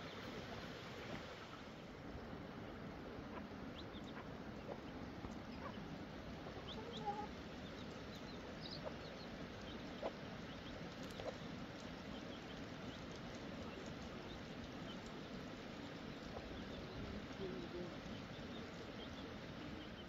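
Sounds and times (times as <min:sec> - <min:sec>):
birds chirping: 0:00.0 - 0:20.0
steady hiss: 0:00.0 - 0:20.0.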